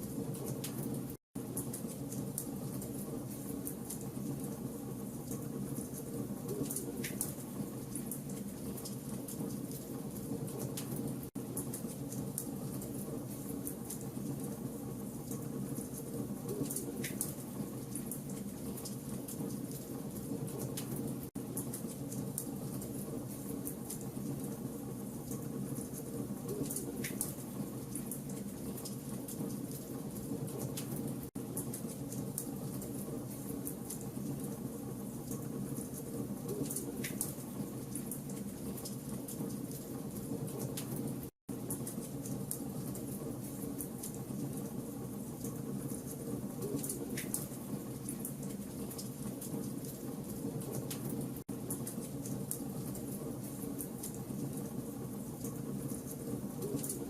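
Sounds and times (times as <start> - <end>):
low fire rumble: 0.0 - 57.0
wood fire crackling and popping: 5.2 - 24.6, 25.2 - 57.0.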